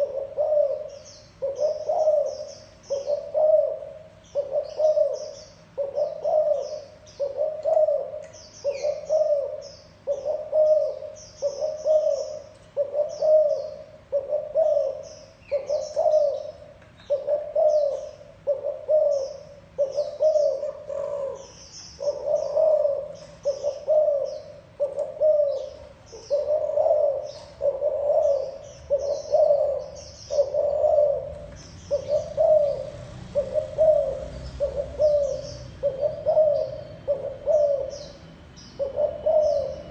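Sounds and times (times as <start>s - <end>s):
dove cooing: 0.0s - 39.9s
small birds chirping faintly: 0.0s - 39.9s.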